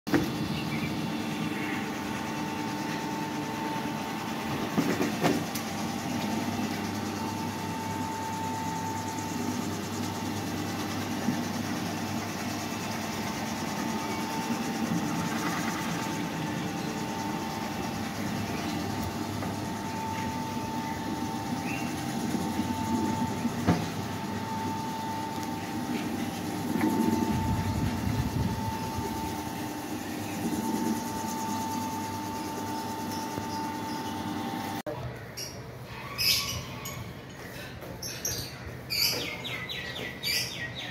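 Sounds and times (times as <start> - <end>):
electric machine running: 0.1 - 35.0
thin whine: 0.1 - 35.0.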